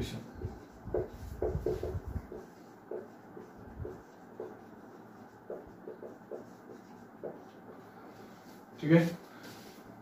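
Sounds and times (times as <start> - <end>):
marker writing on whiteboard: 0.2 - 8.7.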